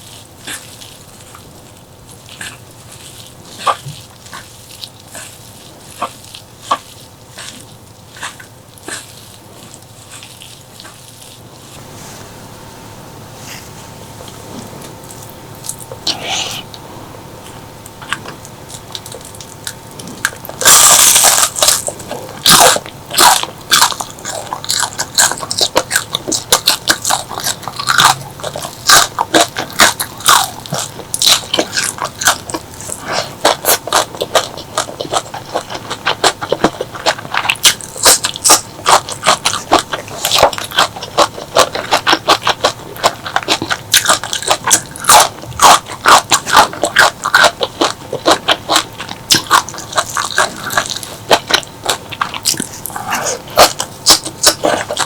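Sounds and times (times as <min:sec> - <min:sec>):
crunching bite: 0:00.0 - 0:11.8, 0:14.2 - 0:55.0
chewing crunchy food: 0:00.0 - 0:55.0.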